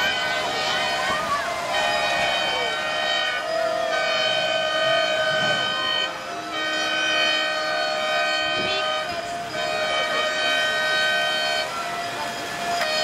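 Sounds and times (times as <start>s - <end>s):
crowd voices: 0.0s - 13.0s
ship horns sounding a chord: 0.0s - 13.0s.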